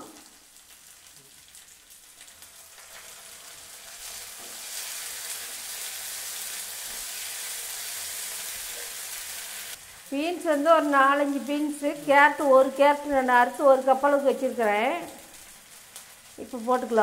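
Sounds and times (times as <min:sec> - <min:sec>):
paste sizzling in hot oil: 0:00.1 - 0:17.0.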